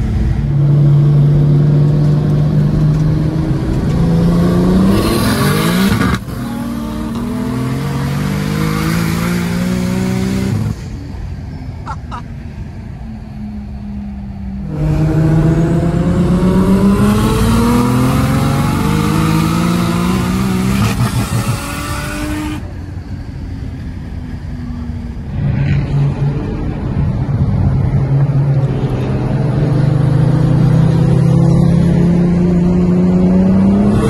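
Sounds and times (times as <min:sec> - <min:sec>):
race car engine at hard throttle: 0:00.0 - 0:34.0.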